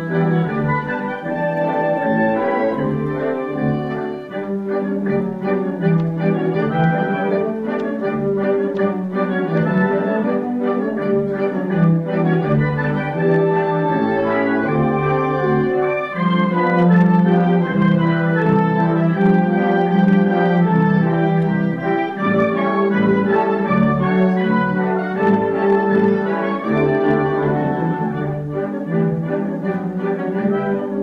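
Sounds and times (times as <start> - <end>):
wind band playing sustained chords: 0.0 - 31.0.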